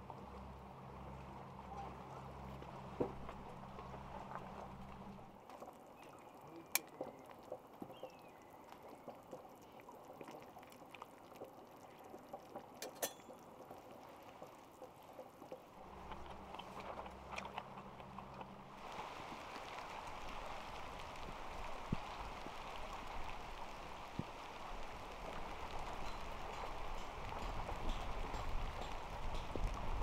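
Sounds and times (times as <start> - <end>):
raindrops ticking: 0.0 - 30.0.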